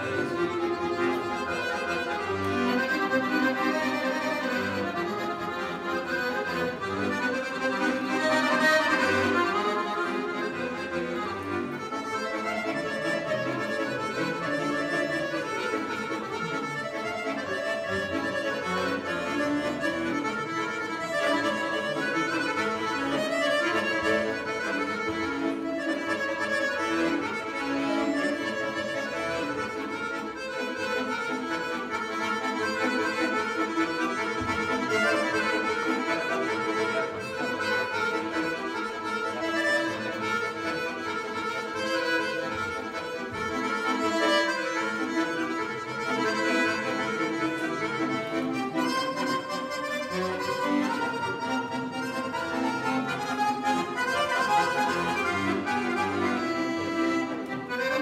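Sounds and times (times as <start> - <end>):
accordion playing a tune: 0.0 - 58.0.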